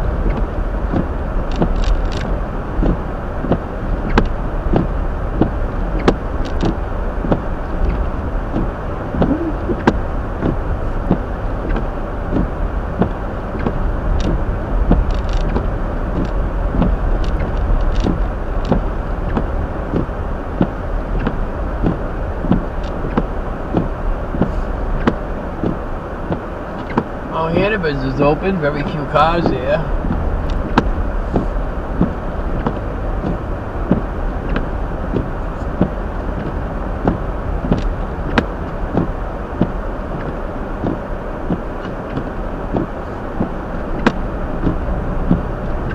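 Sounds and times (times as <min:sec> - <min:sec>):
tyres and engine rumble: 0:00.0 - 0:45.9.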